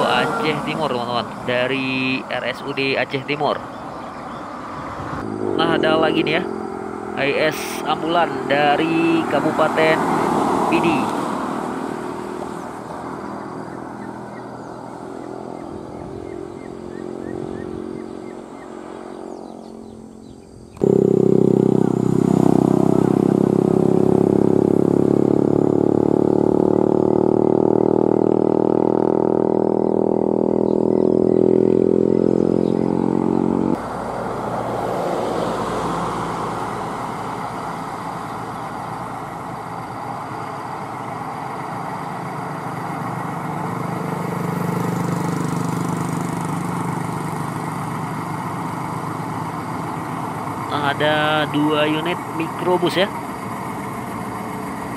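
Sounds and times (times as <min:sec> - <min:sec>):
ambulance engine driving away: 0:00.0 - 0:54.9
truck approaching: 0:00.0 - 0:54.9
vehicle engine running close by: 0:00.0 - 0:54.9.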